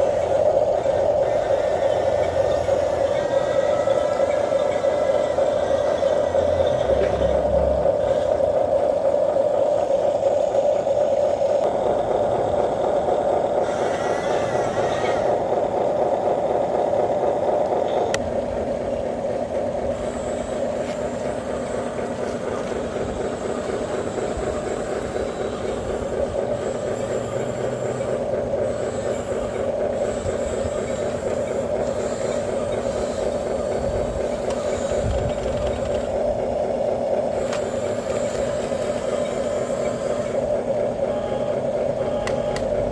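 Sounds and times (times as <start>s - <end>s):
radio-controlled truck whine: 0.0s - 42.9s.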